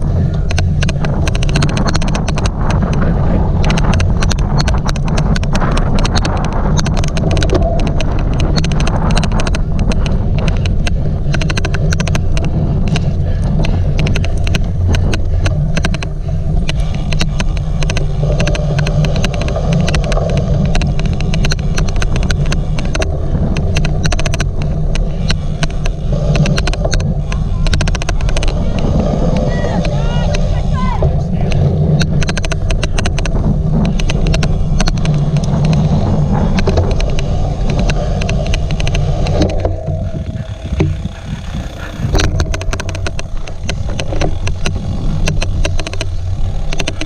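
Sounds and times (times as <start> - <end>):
rapid irregular clicking: 0.0 - 47.0
wind rumble on microphone: 0.0 - 47.0.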